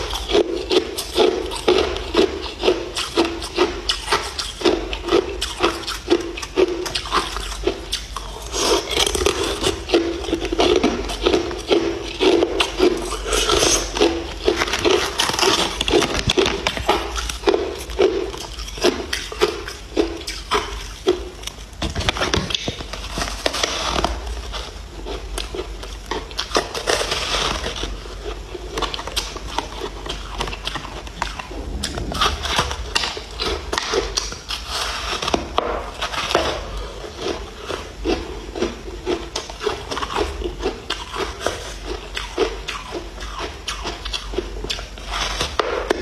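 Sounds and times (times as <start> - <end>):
ice crunching being chewed: 0.0 - 46.0.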